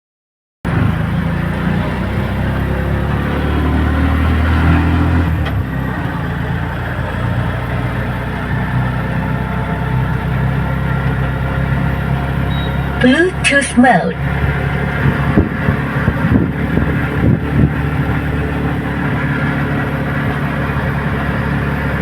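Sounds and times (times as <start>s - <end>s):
vehicle engine running: 0.7s - 22.0s.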